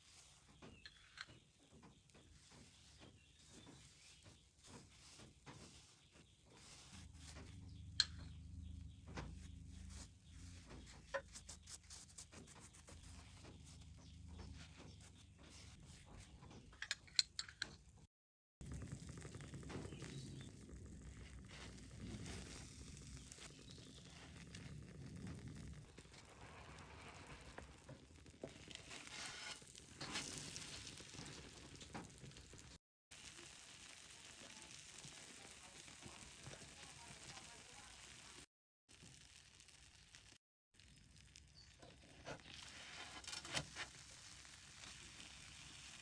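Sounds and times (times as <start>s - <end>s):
butter and sugar sizzling in pan: 0.0s - 15.9s, 18.6s - 46.0s.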